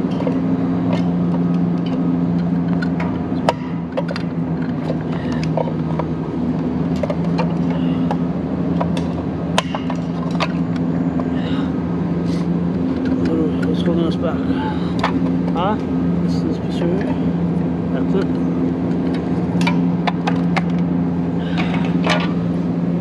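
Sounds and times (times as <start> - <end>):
low machinery hum: 0.0 - 23.0.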